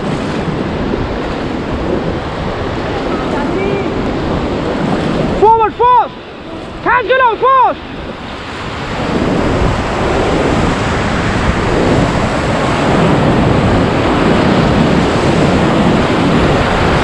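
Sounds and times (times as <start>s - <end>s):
whitewater rapids rushing: 0.0s - 17.0s.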